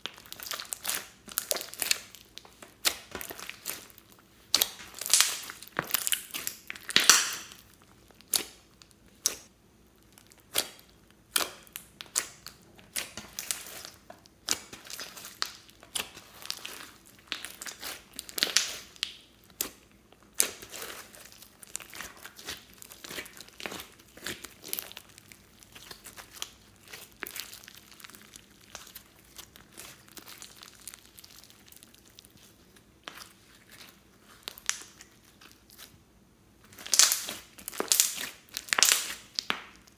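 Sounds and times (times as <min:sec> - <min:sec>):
slime crackling and popping: 0:00.0 - 0:36.0, 0:36.6 - 0:39.9.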